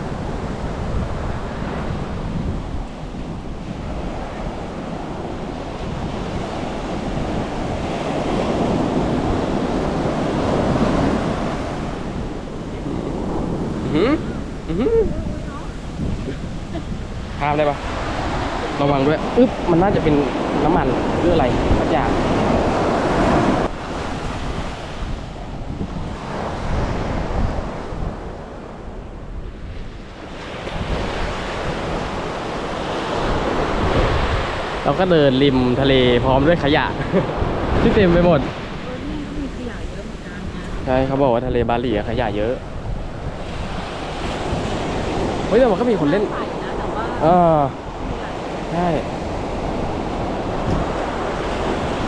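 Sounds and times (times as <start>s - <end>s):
sea surf washing on beach: 0.0s - 52.0s
wind buffeting microphone: 0.0s - 52.0s.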